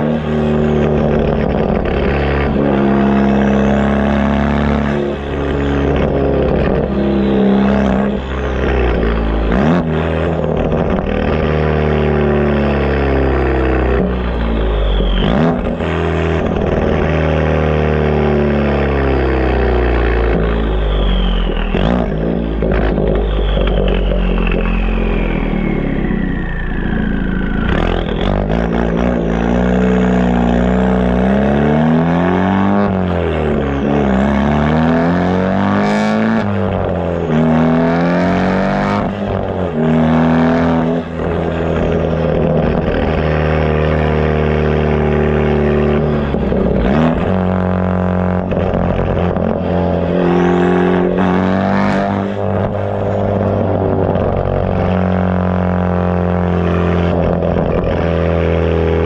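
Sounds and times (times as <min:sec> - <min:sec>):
car engine through exhaust: 0:00.0 - 0:59.0.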